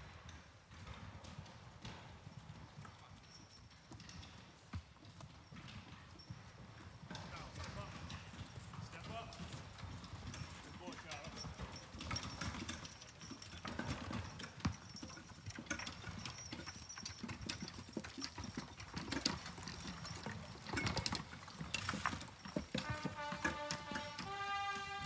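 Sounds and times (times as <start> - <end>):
hooves clip-clopping on dirt: 0.0 - 25.0.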